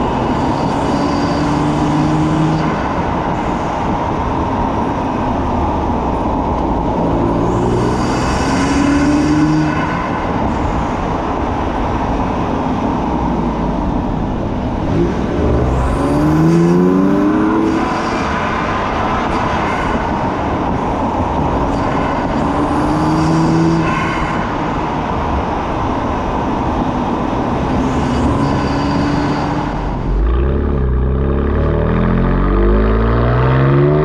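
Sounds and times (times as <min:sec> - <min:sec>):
car engine: 0:00.0 - 0:34.0.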